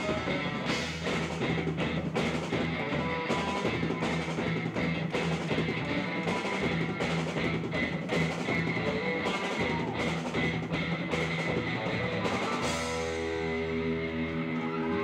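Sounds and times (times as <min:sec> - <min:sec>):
drum kit beat: 0:00.0 - 0:13.9
bass guitar: 0:00.0 - 0:15.0
distorted electric guitars: 0:00.0 - 0:15.0.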